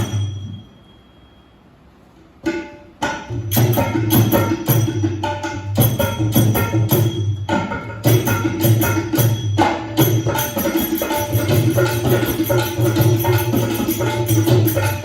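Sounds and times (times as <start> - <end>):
traditional percussion drumming: 0.0 - 0.9, 2.4 - 15.0.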